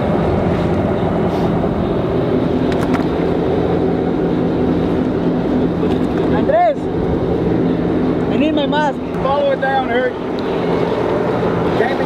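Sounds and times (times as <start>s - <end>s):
boat engine drone: 0.0s - 12.0s
water noise: 0.0s - 12.0s.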